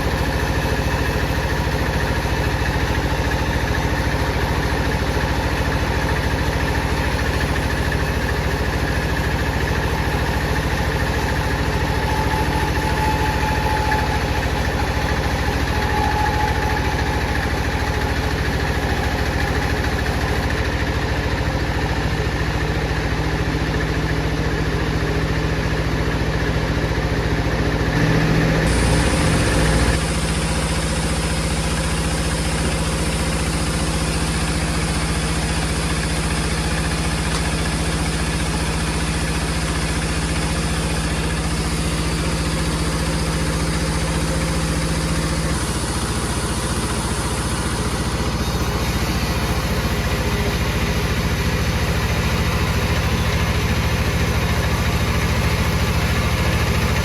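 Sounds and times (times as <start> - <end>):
saw machine humming: 0.0 - 57.0.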